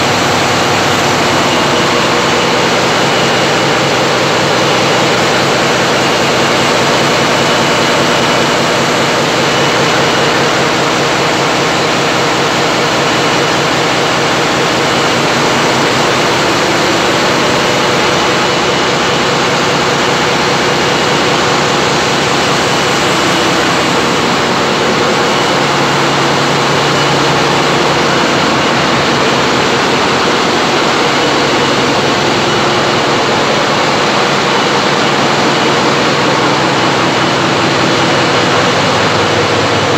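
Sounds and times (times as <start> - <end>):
heavy machinery droning: 0.0 - 39.9.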